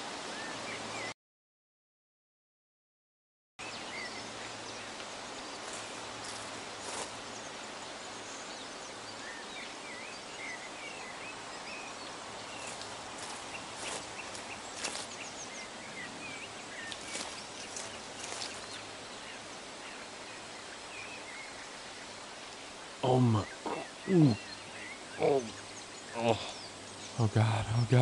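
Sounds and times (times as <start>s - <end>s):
steady background hiss: 0.0s - 1.1s, 3.6s - 28.0s
bird chirps: 3.6s - 22.2s, 23.0s - 28.0s.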